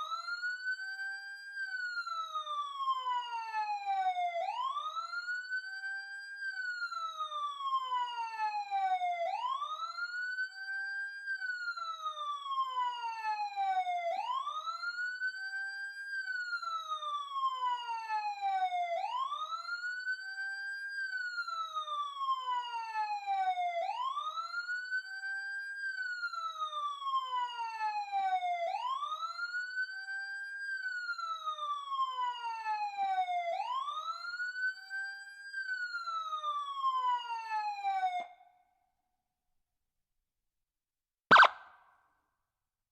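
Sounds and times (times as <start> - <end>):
police siren wailing: 0.0 - 38.5, 41.3 - 41.8.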